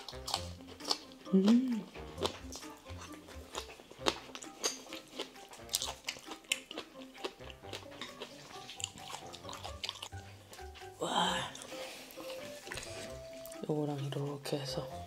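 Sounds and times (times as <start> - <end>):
wet chewing and mouth clicks: 0.0 - 14.4
soft background music: 0.0 - 15.0.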